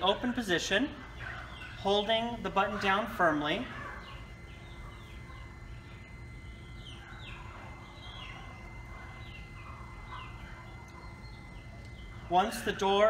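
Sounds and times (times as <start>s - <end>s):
birds chirping: 0.0s - 13.0s
faint motor whine: 0.0s - 13.0s.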